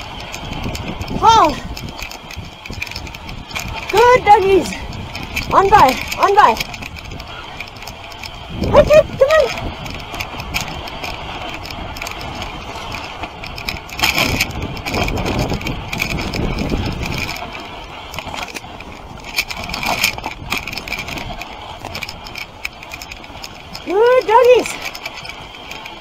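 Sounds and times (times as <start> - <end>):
sled runners scraping over snow: 0.0 - 26.0
wooden sled frame rattling: 0.0 - 26.0.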